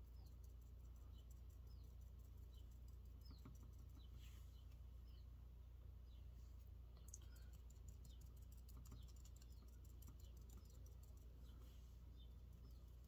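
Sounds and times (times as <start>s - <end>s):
faint bird chirps: 0.0s - 13.0s
steady low hum: 0.0s - 13.0s.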